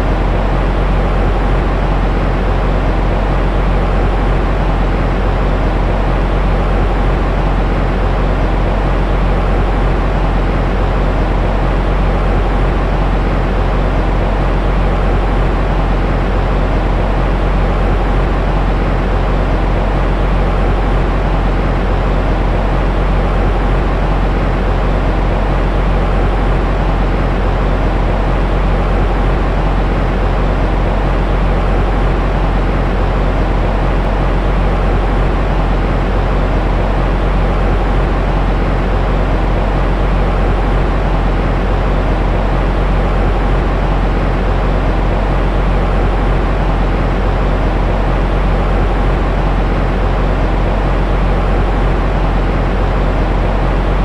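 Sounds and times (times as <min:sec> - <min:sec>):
steady white noise rumble: 0:00.0 - 0:54.0.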